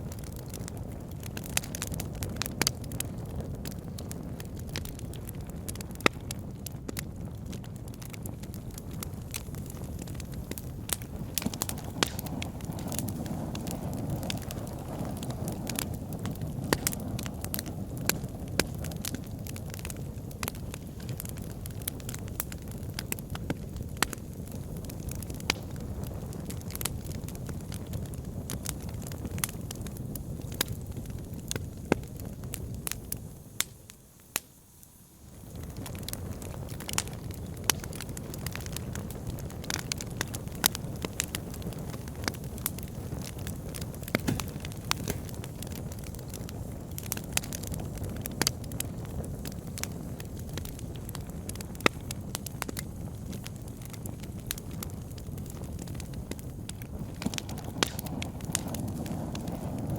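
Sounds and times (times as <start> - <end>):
rush of flame: 0.0 - 59.9
wood fire crackling and popping: 0.0 - 59.9.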